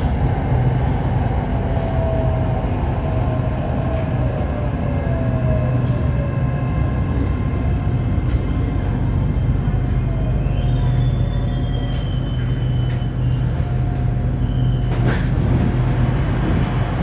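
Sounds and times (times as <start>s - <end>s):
train carriage rumbling: 0.0s - 17.0s.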